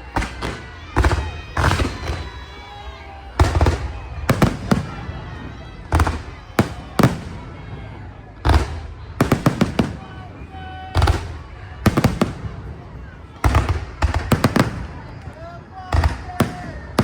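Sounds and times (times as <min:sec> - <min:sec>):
firework bangs: 0:00.0 - 0:17.0.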